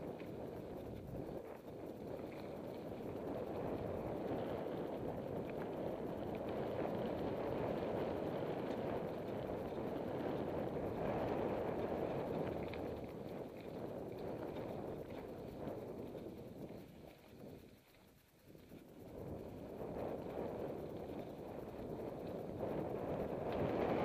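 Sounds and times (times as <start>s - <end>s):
bike tyres rolling on dirt: 0.0s - 24.0s
faint clicks: 0.0s - 24.0s
wind on microphone: 0.0s - 24.0s.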